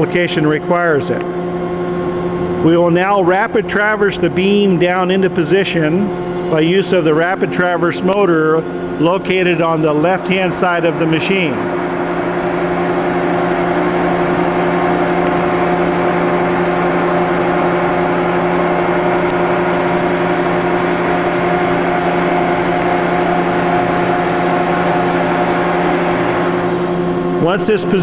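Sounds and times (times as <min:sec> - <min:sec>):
clamp motor humming: 0:00.0 - 0:28.0.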